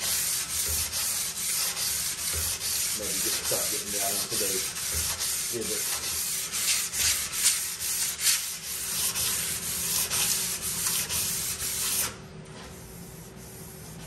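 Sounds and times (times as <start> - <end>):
sandpaper rasping on metal: 0.0 - 12.1.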